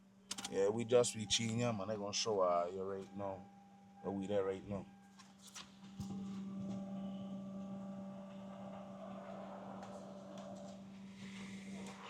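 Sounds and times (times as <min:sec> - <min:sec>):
electrical hum with higher tones: 0:00.0 - 0:12.0.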